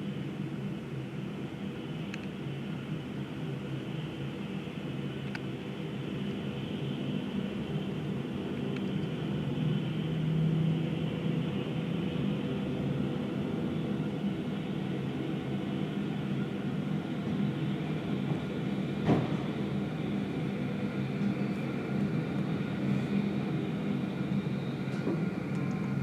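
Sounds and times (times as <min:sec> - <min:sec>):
aircraft engines droning: 0:00.0 - 0:26.0.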